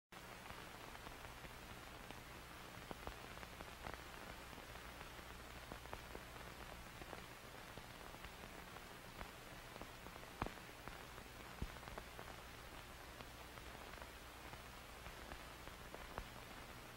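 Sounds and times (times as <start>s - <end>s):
faint steady hiss: 0.2s - 16.9s.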